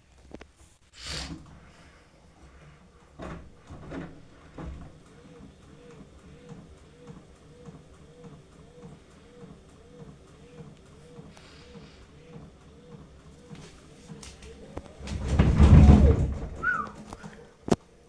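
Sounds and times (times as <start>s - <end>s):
washing machine motor humming: 1.2s - 18.0s
washing machine clicks and knocks: 3.0s - 17.9s.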